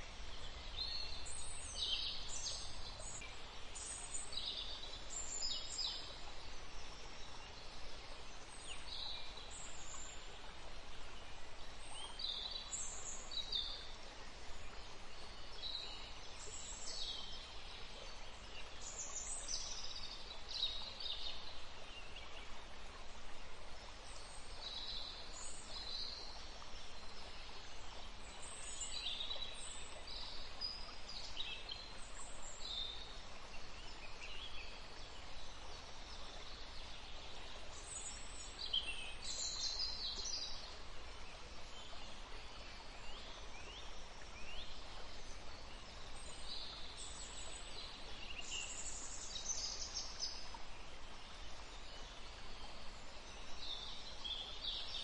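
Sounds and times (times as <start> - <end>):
steady low hiss: 0.0 - 55.0.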